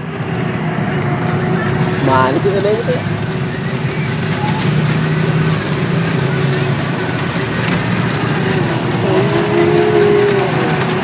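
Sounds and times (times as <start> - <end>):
ride train engine running: 0.0 - 11.0
faint voices: 0.5 - 11.0.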